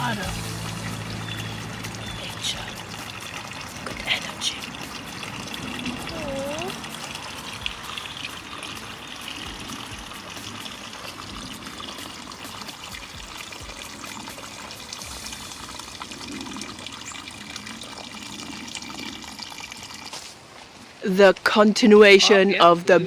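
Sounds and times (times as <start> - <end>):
stream trickling with splashing: 0.0 - 23.0.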